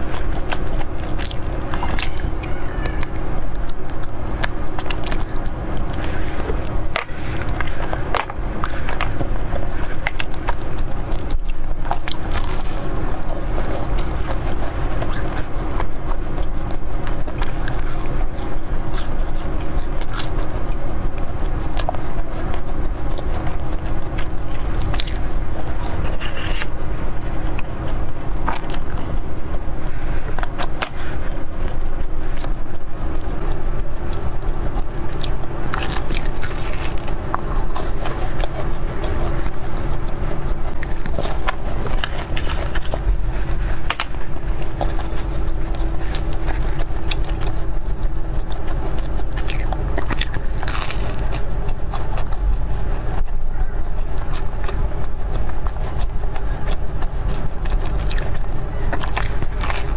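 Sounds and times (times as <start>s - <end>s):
bite into pastry: 0.0s - 59.9s
chewing: 0.0s - 59.9s
fried pastry crackling: 0.0s - 59.9s.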